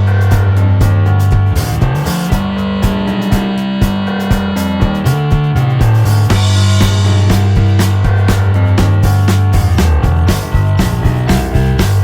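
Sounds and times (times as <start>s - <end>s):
guitar: 0.0s - 12.0s
steady beat: 0.0s - 12.0s
sustained bass line: 0.0s - 12.0s.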